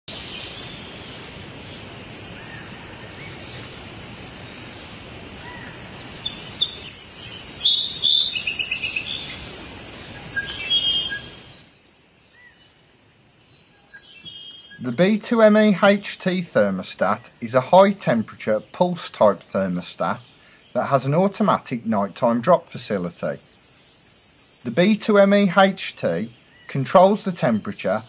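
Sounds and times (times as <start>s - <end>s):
bird calls: 0.1s - 3.8s, 5.4s - 12.8s, 13.4s - 28.0s
steady forest hiss: 0.1s - 28.0s.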